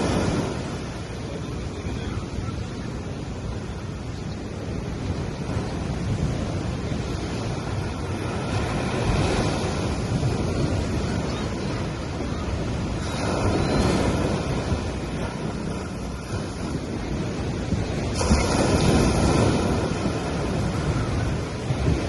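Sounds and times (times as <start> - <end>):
small waves breaking on sand: 0.0 - 22.0.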